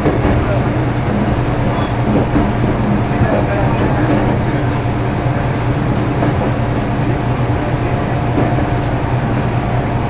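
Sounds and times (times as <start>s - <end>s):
diesel railcar engine drone: 0.0s - 10.0s.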